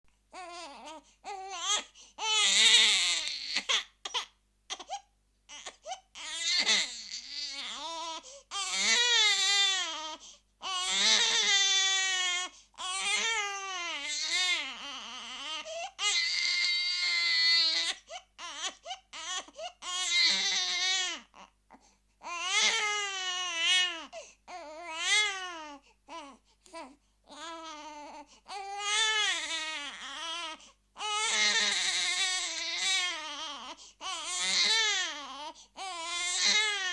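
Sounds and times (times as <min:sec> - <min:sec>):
baby crying: 0:00.4 - 0:21.6, 0:22.2 - 0:36.9.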